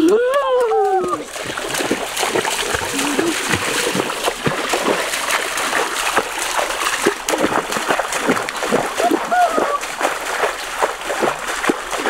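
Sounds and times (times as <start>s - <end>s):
wading splashes in stream: 0.0s - 12.0s.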